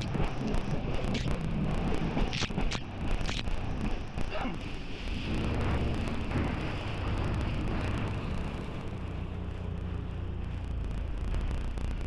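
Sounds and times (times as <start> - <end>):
boat engine rumbling: 0.0 - 12.0
water noise: 0.0 - 12.0
wind: 0.0 - 12.0.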